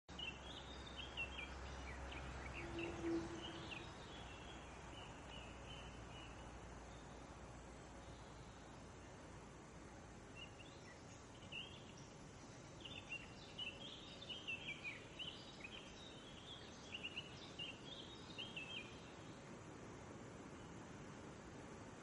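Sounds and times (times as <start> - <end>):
faint steady hiss: 0.0 - 22.0
songbird chirping: 0.0 - 22.0.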